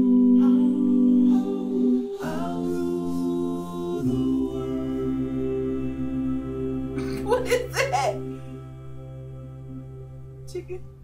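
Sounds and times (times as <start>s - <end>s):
a cappella group singing harmony: 0.0s - 10.8s.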